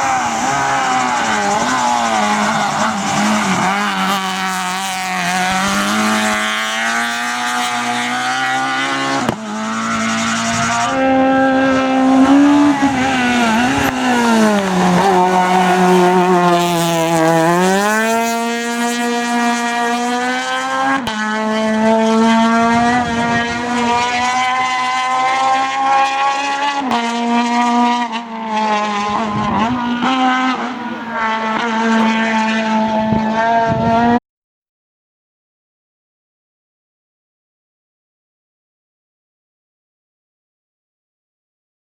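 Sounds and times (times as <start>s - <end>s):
rally car engine revving: 0.0s - 34.2s.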